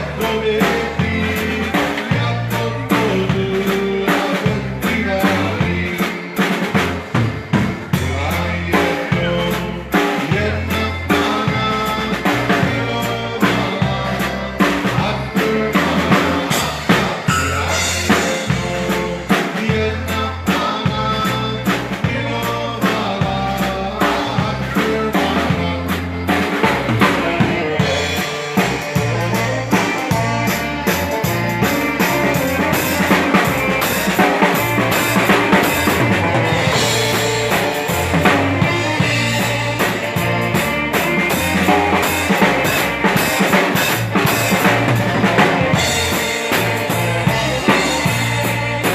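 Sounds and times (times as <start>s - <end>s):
dance band playing live: 0.0s - 48.9s
drum kit steady beat: 0.0s - 48.9s
pulsing bass line: 0.0s - 48.9s.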